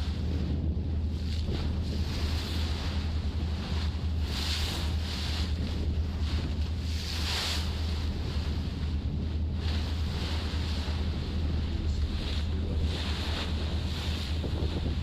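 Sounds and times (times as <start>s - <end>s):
sea waves washing: 0.0s - 15.0s
wind buffeting microphone: 0.0s - 15.0s.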